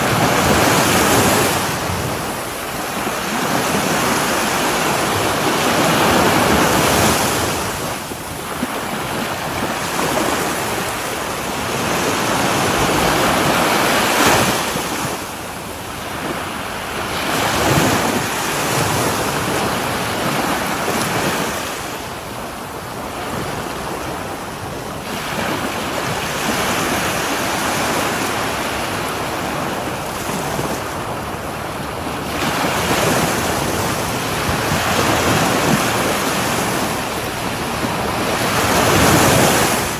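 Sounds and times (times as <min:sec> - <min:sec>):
sea waves breaking on shore: 0:00.0 - 0:39.9
wind on microphone: 0:00.0 - 0:39.9.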